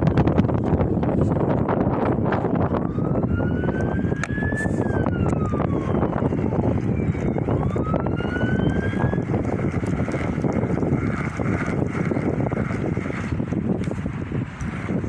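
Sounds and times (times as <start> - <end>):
siren wailing: 0.0 - 1.1, 1.7 - 13.6
wind buffeting microphone: 0.0 - 15.0.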